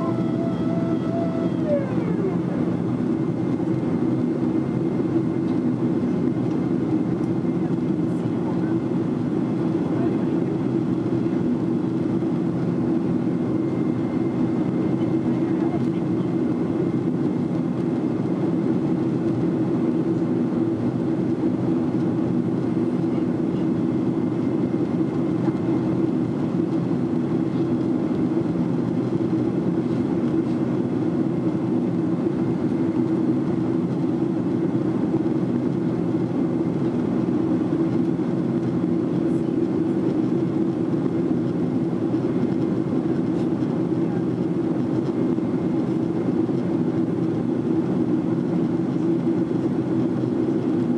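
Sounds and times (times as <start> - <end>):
airplane cabin engine drone: 0.0 - 50.9.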